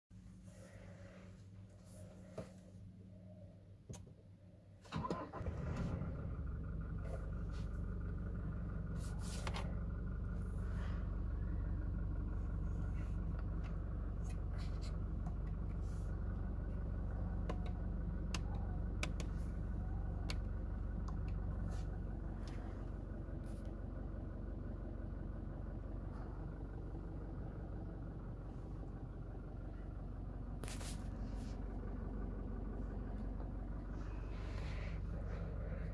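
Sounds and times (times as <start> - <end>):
car engine idling: 0.2 - 35.9.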